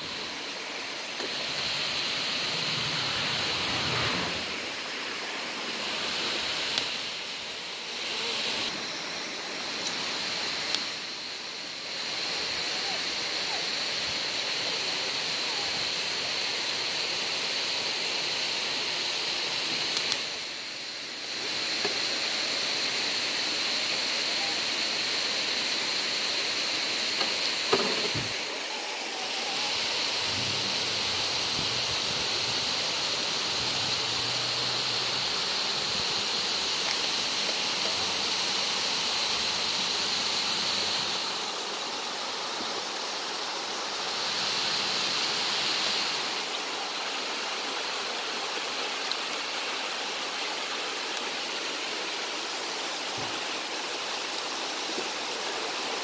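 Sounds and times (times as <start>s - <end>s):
waterfall and stream rushing: 0.0s - 56.0s.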